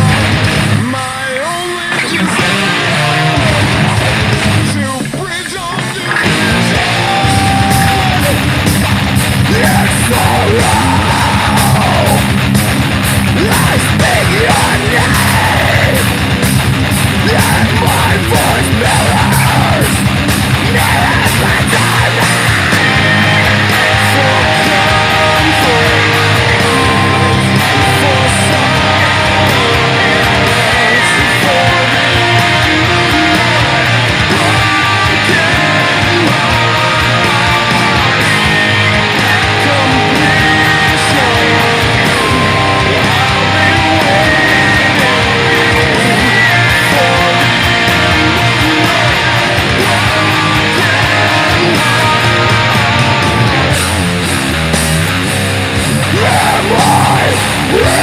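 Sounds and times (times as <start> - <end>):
distorted electric guitar riffing: 0.0 - 58.0
drums: 0.0 - 58.0
heavy metal band playing: 0.0 - 58.0
yelled and sung vocals: 0.0 - 58.0.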